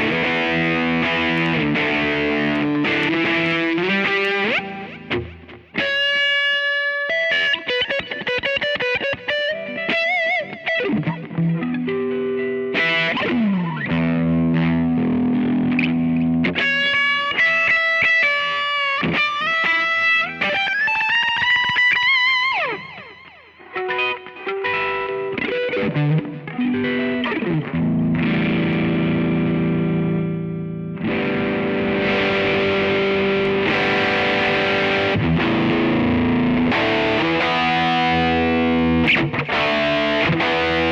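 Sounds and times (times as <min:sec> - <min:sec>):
distorted electric guitar: 0:00.0 - 0:40.9.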